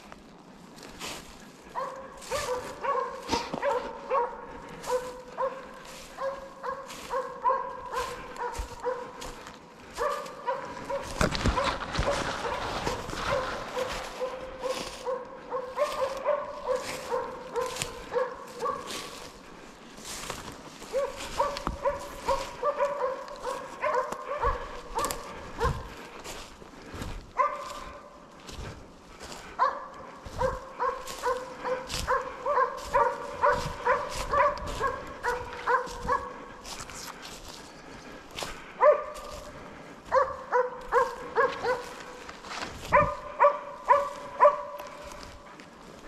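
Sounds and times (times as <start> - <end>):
dog barking: 1.6 - 19.5, 20.1 - 28.7, 29.4 - 37.0, 38.4 - 45.5.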